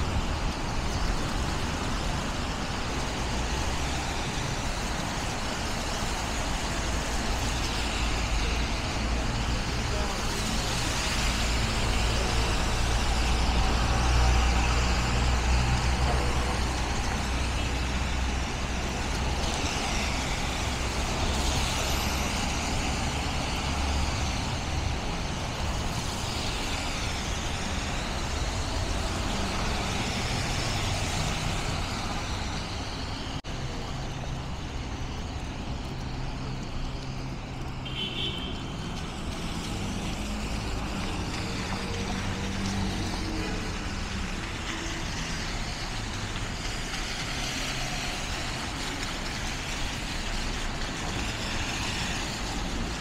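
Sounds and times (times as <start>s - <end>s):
passing cars and heavy vehicles: 0.0s - 53.0s.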